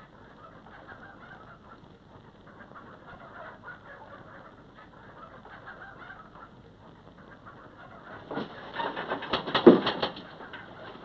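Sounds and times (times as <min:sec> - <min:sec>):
chickens clucking: 0:00.0 - 0:11.0
low hiss: 0:00.0 - 0:11.0.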